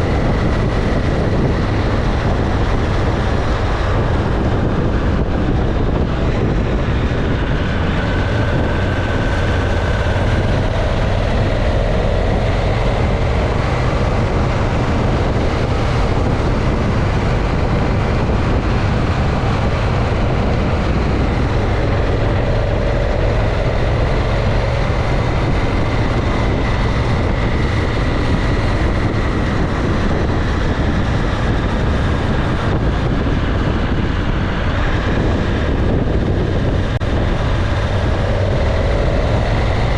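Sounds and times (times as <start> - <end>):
motorcycle engine drone: 0.0 - 39.9
wind on microphone: 0.0 - 39.9.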